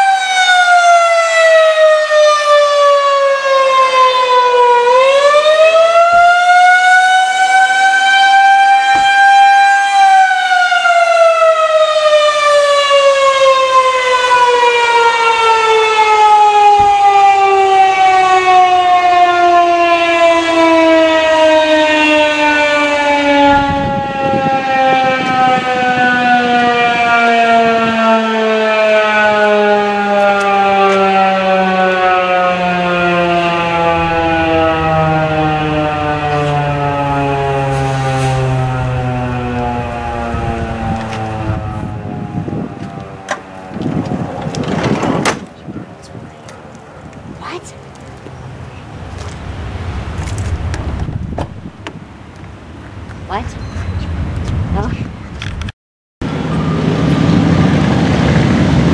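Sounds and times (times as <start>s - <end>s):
mechanical siren wailing: 0.0s - 45.2s, 48.4s - 52.3s, 56.3s - 58.0s.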